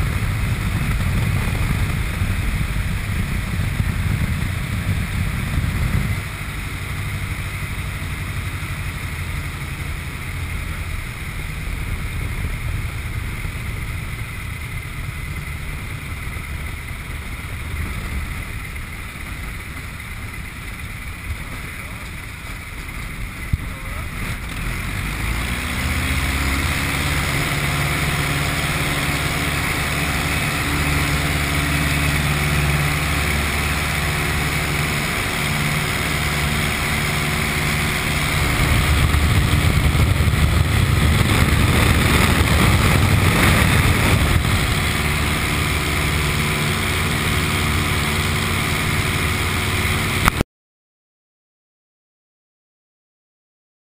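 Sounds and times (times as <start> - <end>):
small plane engine and propeller: 0.0 - 50.4.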